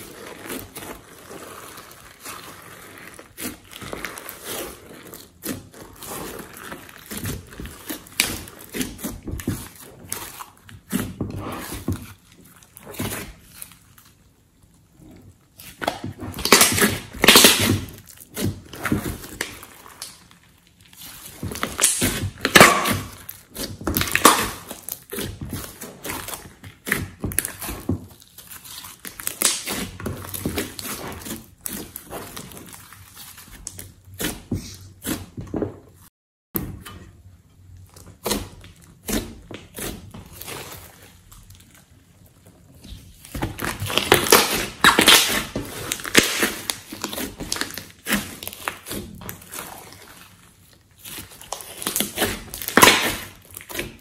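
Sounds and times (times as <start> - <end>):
slime squishing and squelching: 0.0 - 54.0.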